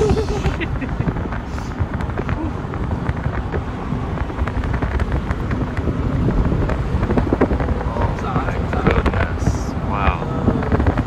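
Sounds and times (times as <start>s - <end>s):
car driving rumble: 0.0s - 11.0s
wind buffeting microphone: 0.0s - 11.0s.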